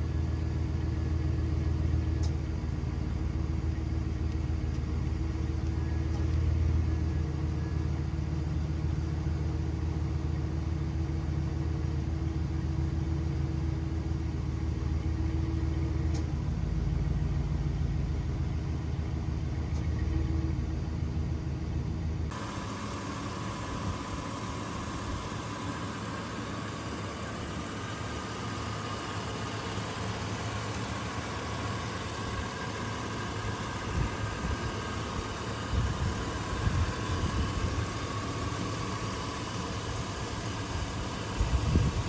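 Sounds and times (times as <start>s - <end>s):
pickup engine idling: 0.0s - 42.0s.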